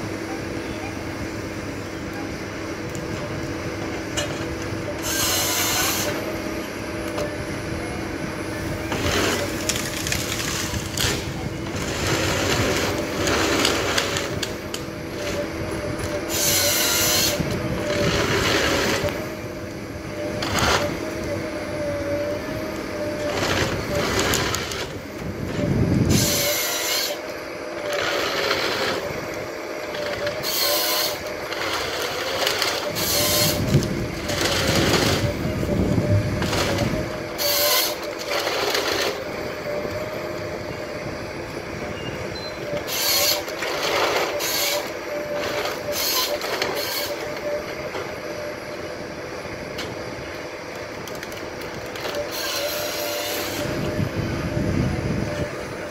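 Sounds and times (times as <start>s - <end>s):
diesel engine and hydraulics whine: 0.0s - 55.9s.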